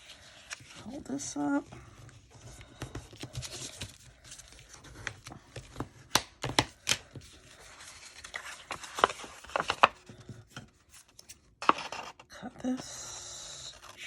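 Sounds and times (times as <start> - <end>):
paper rustling: 0.0 - 12.2.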